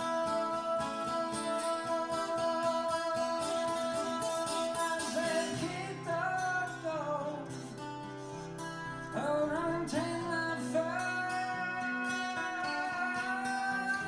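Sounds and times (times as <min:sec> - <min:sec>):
guitar: 0:00.0 - 0:14.0.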